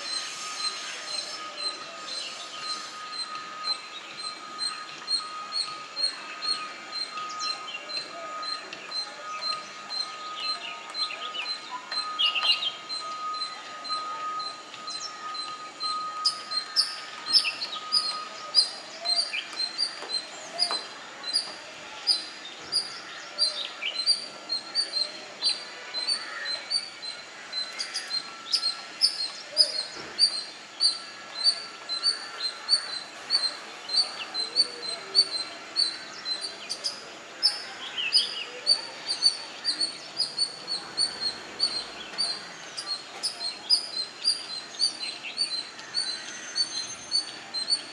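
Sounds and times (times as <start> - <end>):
high bird chirp: 0.0 - 47.9.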